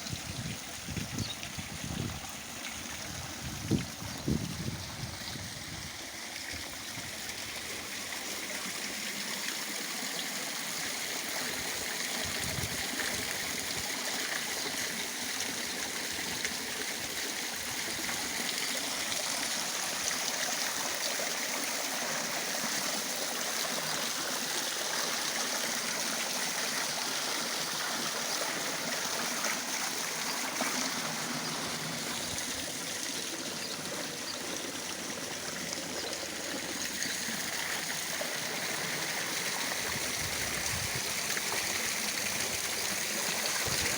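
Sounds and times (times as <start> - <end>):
waterfall into a pond: 0.0 - 43.9.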